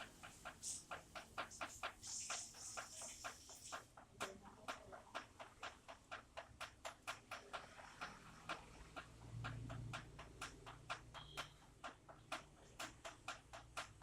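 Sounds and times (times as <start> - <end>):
water drops dripping: 0.0 - 14.0.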